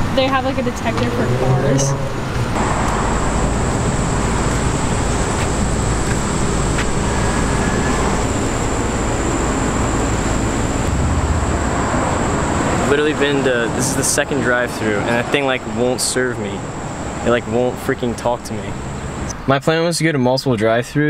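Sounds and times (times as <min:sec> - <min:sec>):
car engines running: 0:00.0 - 0:19.7
traffic noise: 0:00.0 - 0:20.8.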